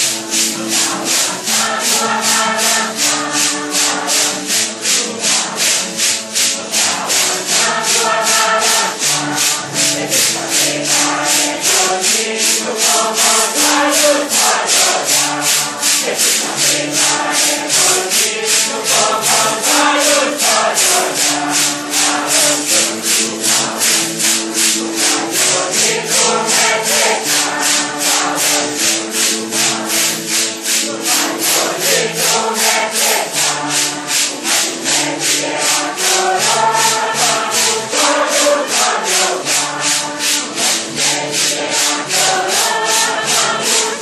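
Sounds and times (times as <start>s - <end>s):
group singing a hymn: 0.0s - 44.0s
maracas shaking: 0.0s - 44.0s.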